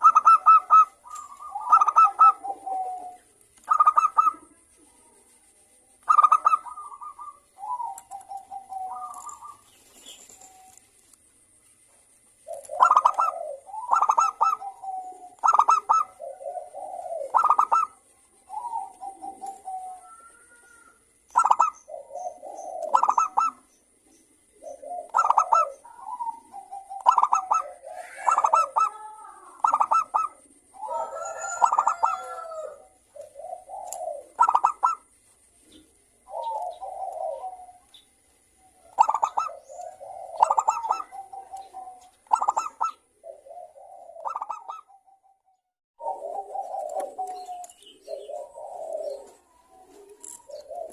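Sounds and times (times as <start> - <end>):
doves cooing: 0.0 - 5.4, 6.0 - 45.4, 46.0 - 50.9.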